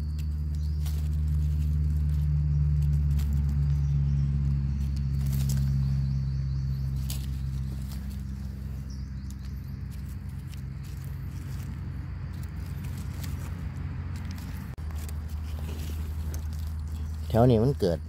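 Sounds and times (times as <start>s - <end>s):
dry leaves and twigs crackling: 0.0s - 18.0s
steady low hum: 0.0s - 18.0s.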